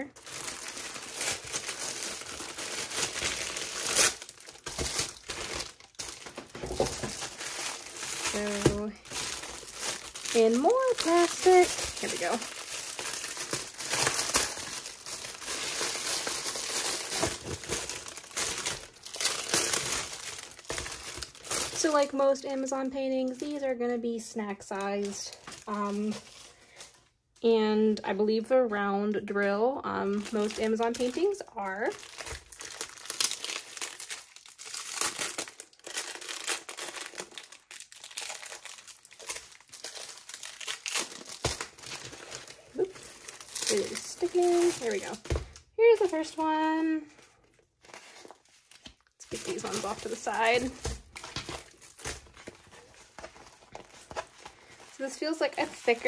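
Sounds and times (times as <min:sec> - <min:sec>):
plastic packaging crinkling: 0:00.0 - 0:27.2, 0:29.9 - 0:56.0.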